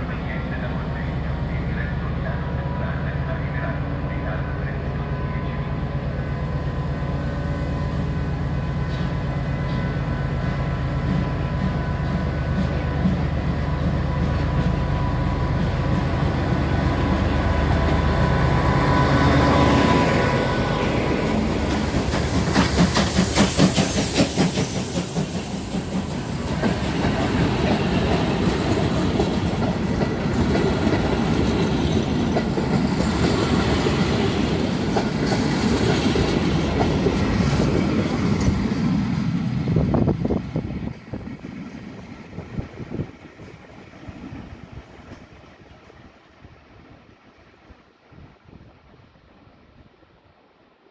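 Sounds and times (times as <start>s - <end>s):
diesel locomotive engine drone: 0.0s - 48.0s.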